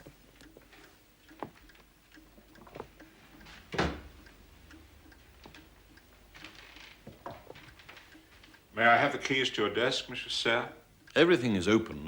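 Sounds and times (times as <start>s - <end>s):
faint ticking: 0.0s - 12.0s.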